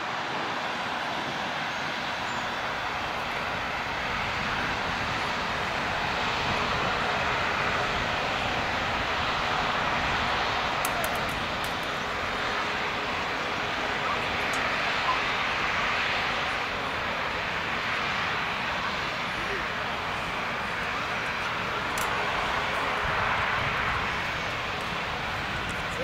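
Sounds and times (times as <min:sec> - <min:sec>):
jet engine rushing: 0:00.0 - 0:26.0.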